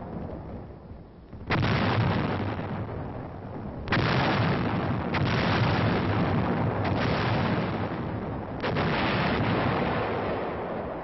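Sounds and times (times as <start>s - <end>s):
artillery blasts with rolling rumble: 0.0s - 11.0s.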